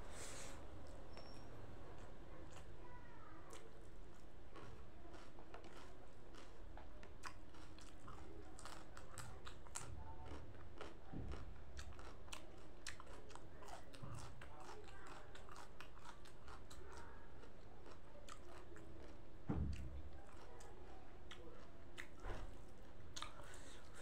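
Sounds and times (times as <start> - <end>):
chewing food with crunches: 1.1 - 24.0.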